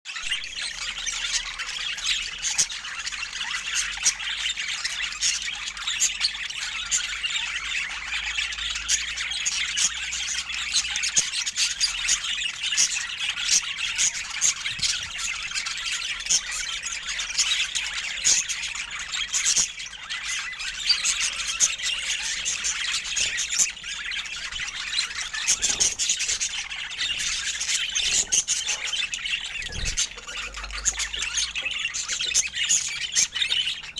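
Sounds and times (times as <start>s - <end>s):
budgerigars chattering: 0.1s - 33.9s.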